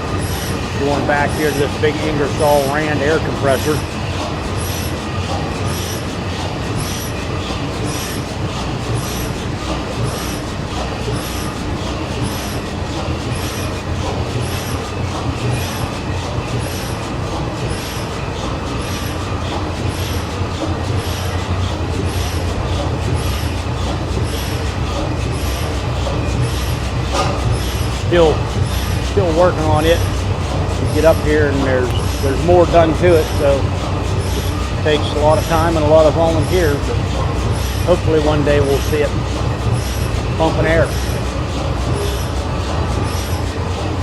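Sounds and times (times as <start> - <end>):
machinery humming with regular beat: 0.0 - 44.0.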